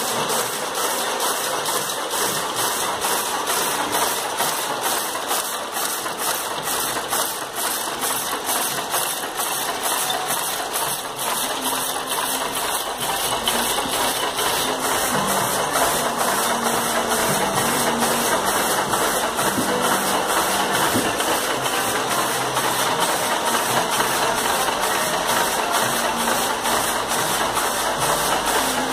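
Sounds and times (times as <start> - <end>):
power loom clattering: 0.0 - 28.9.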